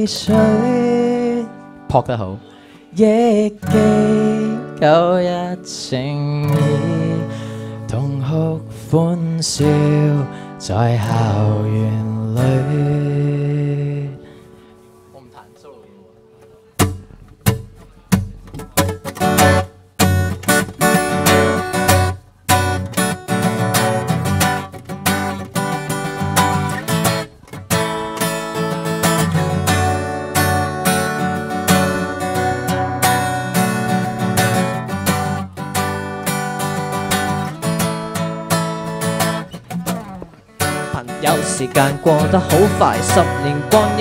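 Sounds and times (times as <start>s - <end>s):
acoustic guitar strumming chords: 0.0s - 44.0s.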